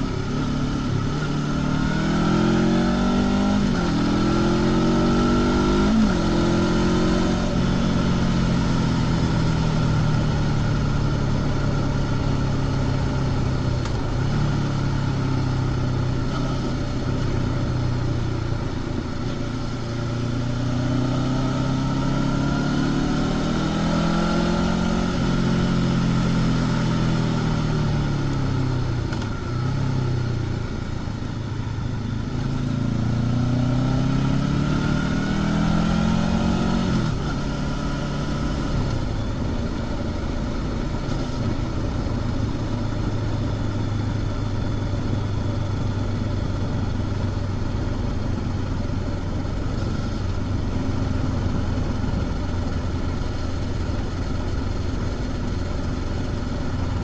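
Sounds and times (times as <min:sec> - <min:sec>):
motorcycle engine revving: 0:00.0 - 0:30.7, 0:31.6 - 0:57.0.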